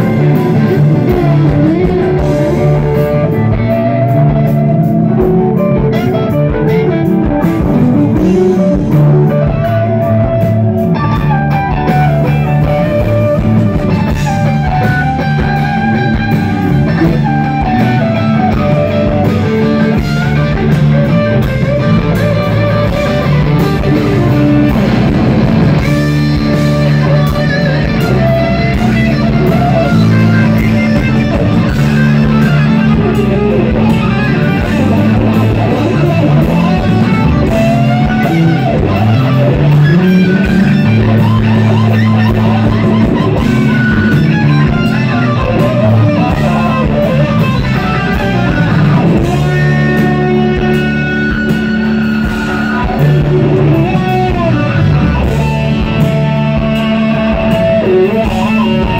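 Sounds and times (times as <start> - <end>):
bass guitar: 0.0 - 58.9
drums: 0.0 - 58.9
electric guitar lead lines: 0.0 - 58.9.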